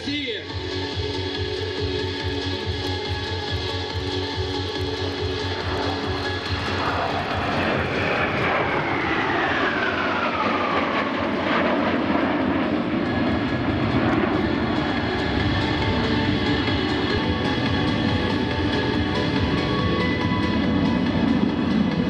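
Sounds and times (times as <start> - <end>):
deep jet rumble: 0.0 - 22.0
jet engine whine: 0.0 - 22.0.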